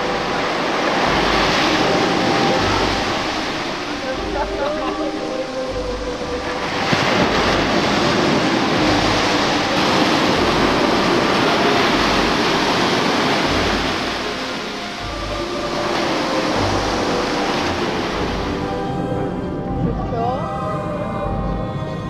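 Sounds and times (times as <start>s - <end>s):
waves breaking on beach: 0.0s - 20.1s.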